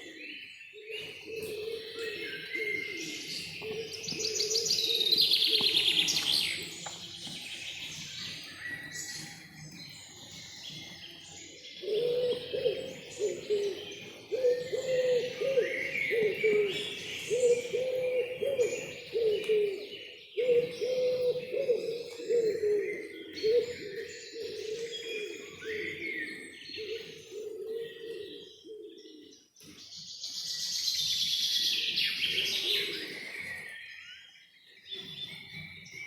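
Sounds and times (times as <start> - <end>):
songbirds singing: 0.0 - 36.0.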